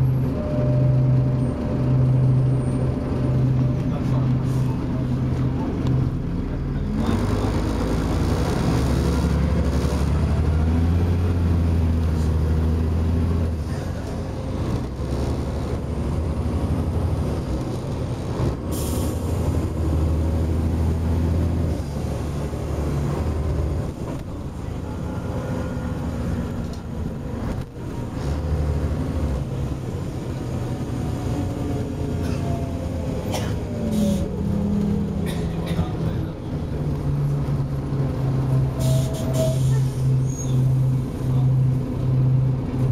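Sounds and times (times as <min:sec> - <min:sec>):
bus engine drone: 0:00.0 - 0:42.9.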